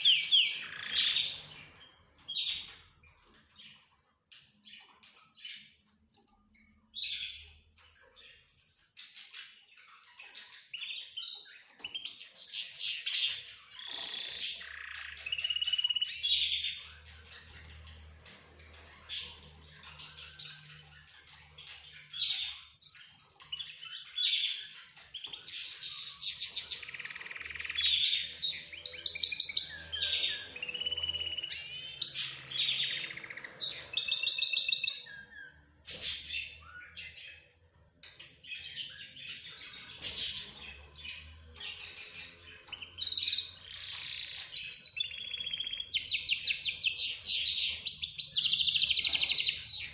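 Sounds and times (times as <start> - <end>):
bird trill: 0.0 - 49.9
caged birds chirping and squawking: 0.0 - 49.9.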